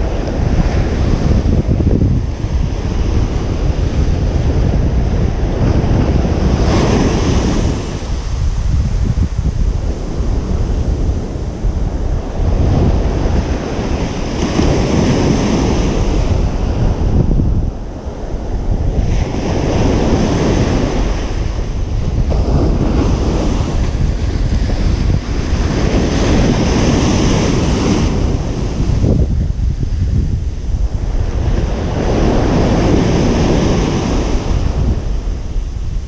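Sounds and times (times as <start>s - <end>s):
waves breaking on a beach: 0.0s - 36.0s
wind on microphone: 0.0s - 36.0s.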